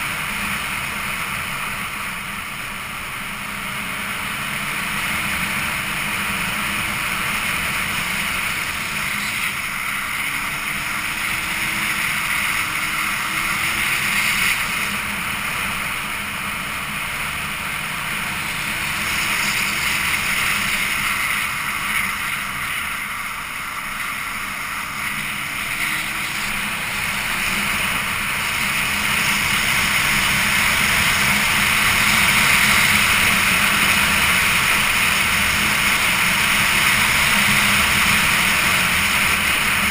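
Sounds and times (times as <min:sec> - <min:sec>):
faint motorcycle engine: 0:00.0 - 0:39.9.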